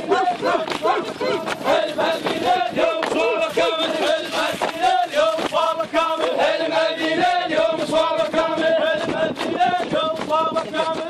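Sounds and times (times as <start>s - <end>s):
men chanting: 0.0s - 11.0s.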